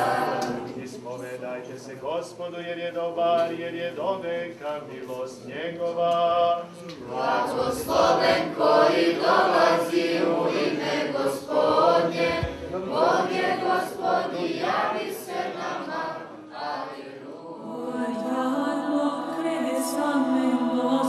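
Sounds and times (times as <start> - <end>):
choir singing chant: 0.0 - 21.0.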